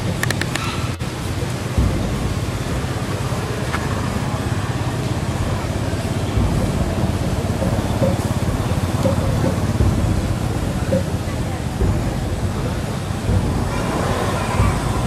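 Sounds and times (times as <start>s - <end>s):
rumbling outdoor background noise: 0.0s - 15.0s.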